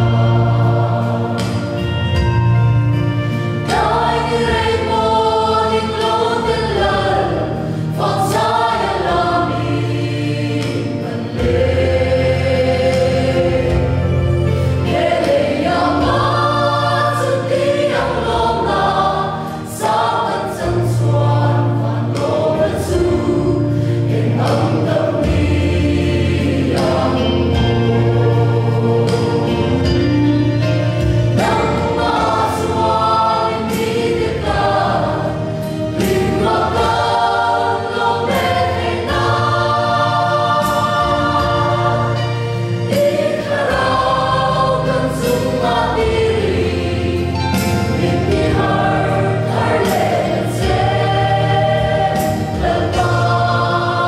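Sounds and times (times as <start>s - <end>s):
mixed choir singing a hymn: 0.0s - 54.0s.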